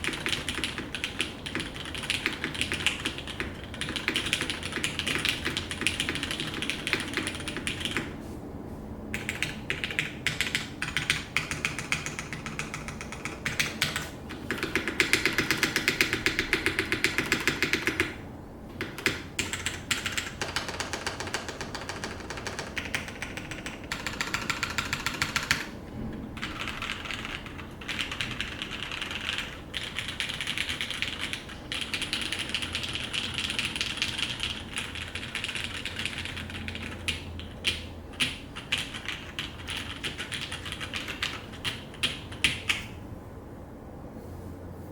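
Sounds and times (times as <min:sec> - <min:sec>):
mechanical keyboard typing: 0:00.0 - 0:08.2, 0:09.2 - 0:18.2, 0:18.8 - 0:25.8, 0:26.4 - 0:42.9.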